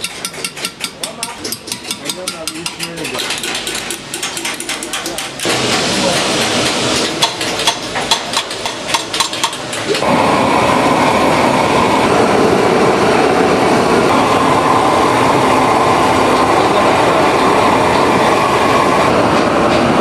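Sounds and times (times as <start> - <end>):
gas torch flame roaring: 3.4 - 20.0.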